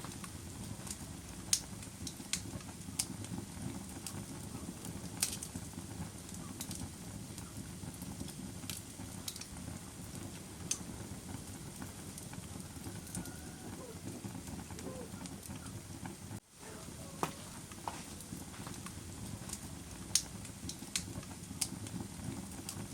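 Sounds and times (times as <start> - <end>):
fire crackling and popping: 0.0 - 22.9
low rumble of flames: 0.0 - 22.9.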